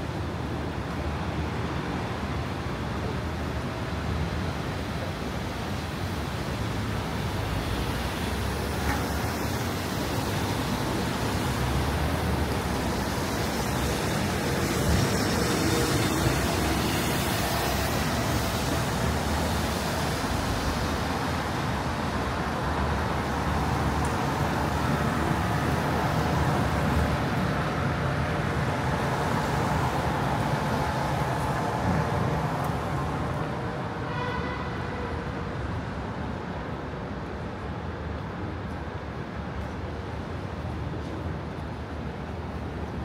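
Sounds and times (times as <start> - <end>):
traffic on wet pavement: 0.0 - 43.0.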